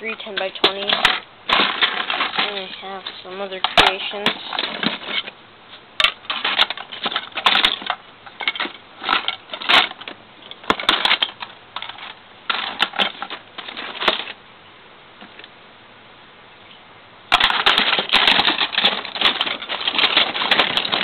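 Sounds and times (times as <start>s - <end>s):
plastic bricks clattering: 0.0s - 5.4s, 6.0s - 14.4s, 17.3s - 21.0s.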